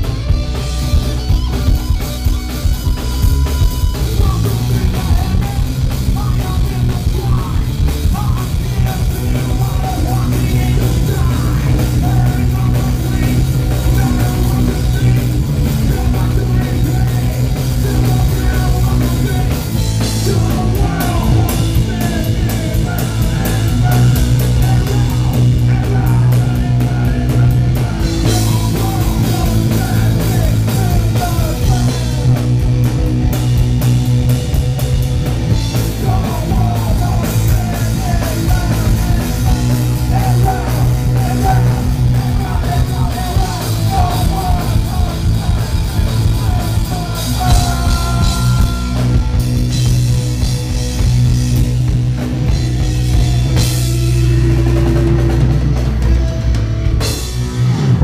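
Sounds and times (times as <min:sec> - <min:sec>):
bass guitar: 0:00.0 - 0:58.0
drums: 0:00.0 - 0:58.0
electric guitar: 0:00.0 - 0:58.0.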